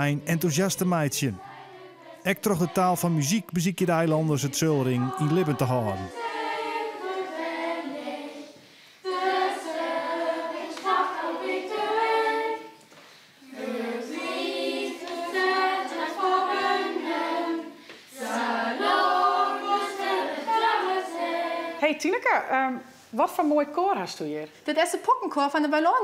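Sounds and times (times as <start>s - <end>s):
children's choir singing a cappella: 0.0s - 21.8s.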